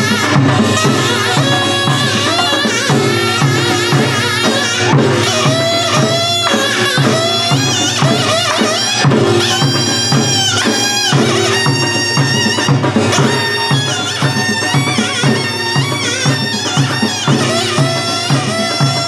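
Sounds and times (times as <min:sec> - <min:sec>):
steady drum beat: 0:00.0 - 0:19.0
wind instrument melody: 0:00.0 - 0:19.0.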